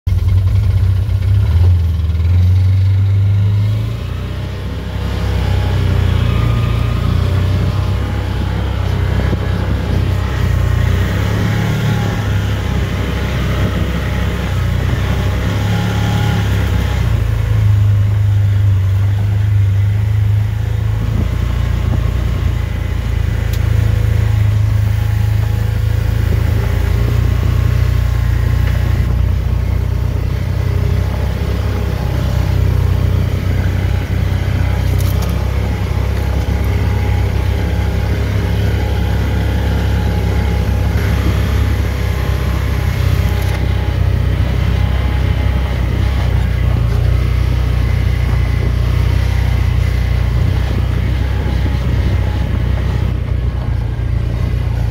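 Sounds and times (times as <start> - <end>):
off-road vehicle engine: 0.0 - 54.9.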